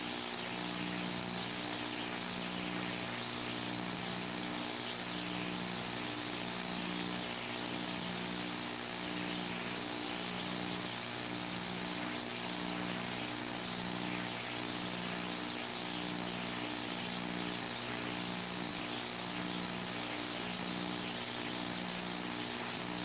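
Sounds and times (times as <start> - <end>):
pulsing low electrical hum: 0.0 - 23.0
steady hiss: 0.0 - 23.0.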